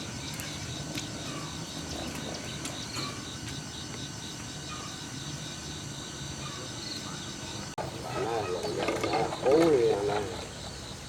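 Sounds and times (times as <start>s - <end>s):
high-pitched insect chirping: 0.0s - 11.0s.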